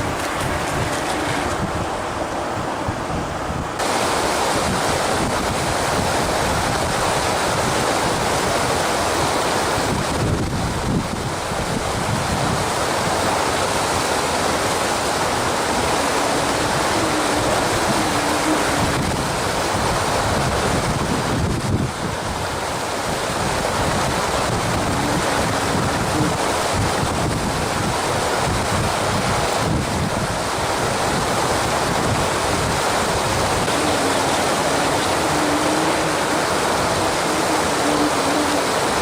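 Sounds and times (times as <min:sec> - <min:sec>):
wind buffeting microphone: 0:00.0 - 0:14.1, 0:15.1 - 0:39.0
waves washing: 0:00.0 - 0:39.0.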